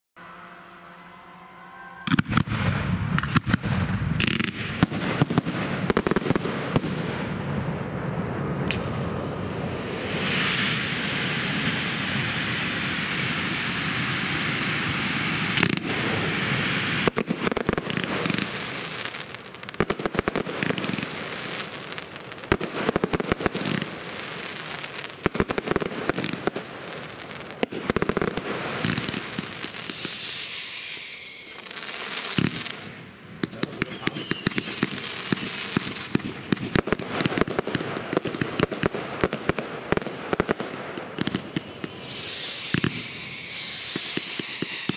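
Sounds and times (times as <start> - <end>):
falling firework whistles: 1.4 - 7.4, 8.4 - 44.9
firework bangs and crackles: 2.0 - 44.9
fireworks hissing rush: 2.1 - 44.9.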